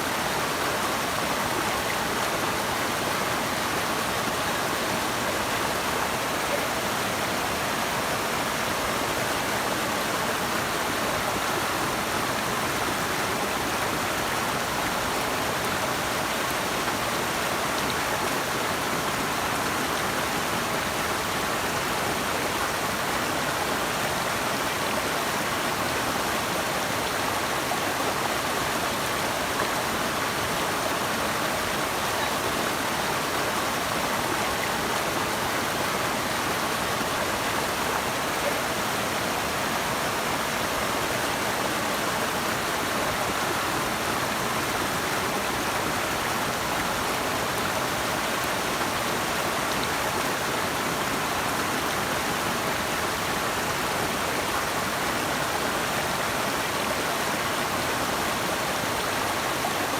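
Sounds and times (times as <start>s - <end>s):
rushing flowing water: 0.0s - 59.9s.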